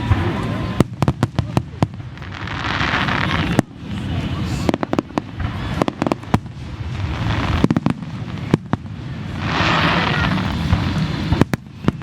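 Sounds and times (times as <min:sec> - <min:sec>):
hissing crackle: 0:00.1 - 0:12.0.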